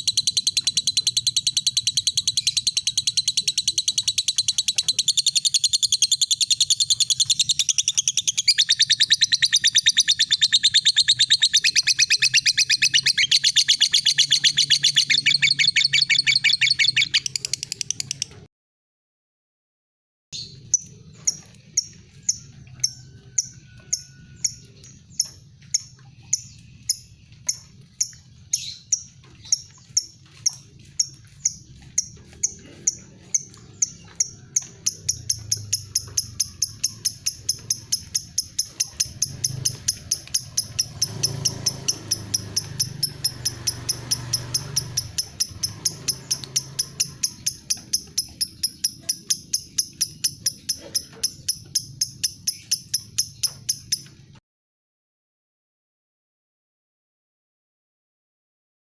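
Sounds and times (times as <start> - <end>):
bird ticking chirps: 0.0 - 18.5, 20.4 - 54.4.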